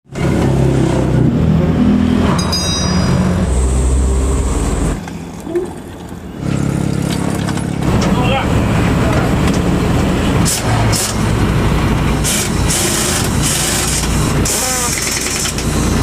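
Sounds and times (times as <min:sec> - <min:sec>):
truck diesel engine revving: 0:00.1 - 0:16.0.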